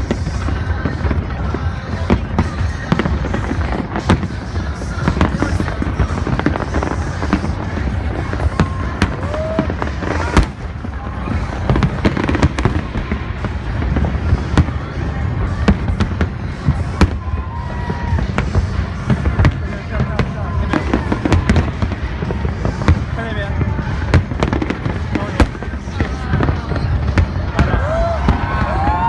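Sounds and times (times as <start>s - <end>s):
fireworks bangs and cracks: 0.0s - 29.0s
low rumble of explosions: 0.0s - 29.0s.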